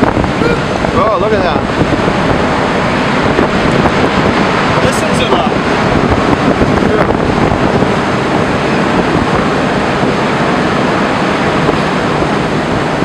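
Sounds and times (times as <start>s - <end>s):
water rushing and churning: 0.0s - 13.0s.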